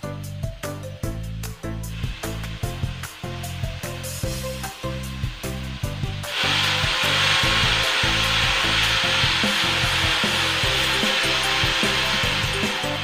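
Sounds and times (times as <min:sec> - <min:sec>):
angle grinder sanding wood: 0:02.0 - 0:13.0.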